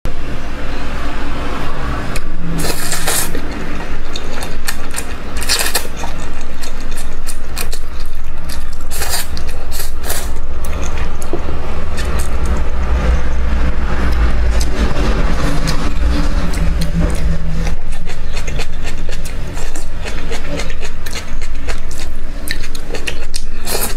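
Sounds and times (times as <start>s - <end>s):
deep rumble: 0.1s - 22.3s
chewing and crunching: 2.2s - 12.8s, 14.0s - 23.9s.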